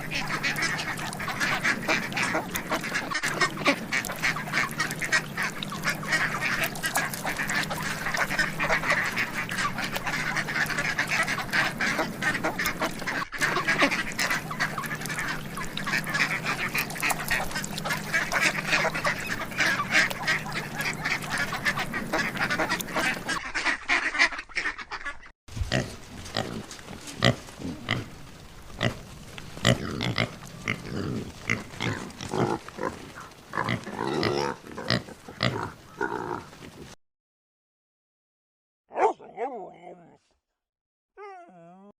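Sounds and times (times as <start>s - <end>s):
pig grunting: 0.0s - 23.3s, 25.7s - 36.9s
waterfowl quacking and honking: 0.0s - 36.6s.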